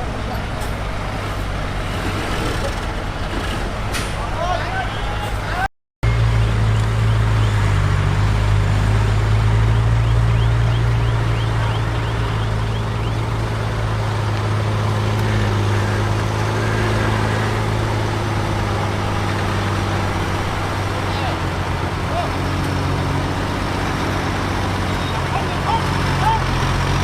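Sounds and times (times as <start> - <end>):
heavy diesel engine droning: 0.0 - 27.0.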